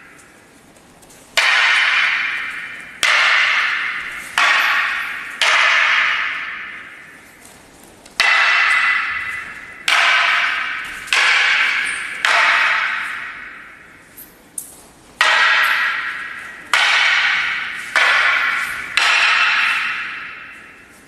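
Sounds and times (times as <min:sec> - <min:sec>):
wooden staffs clacking together: 0:00.0 - 0:21.0.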